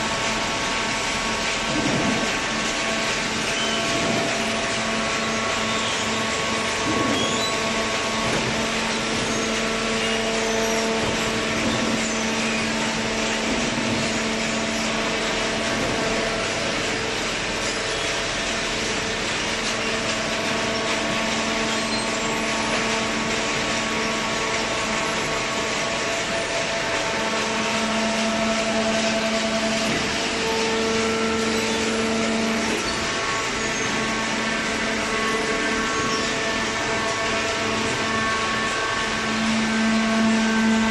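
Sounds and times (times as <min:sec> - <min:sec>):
baler machine hum and hiss: 0:00.0 - 0:40.9.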